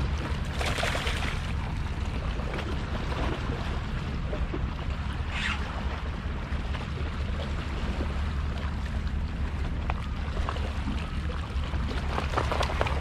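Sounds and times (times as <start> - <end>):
water lapping against rocks: 0.0 - 13.0.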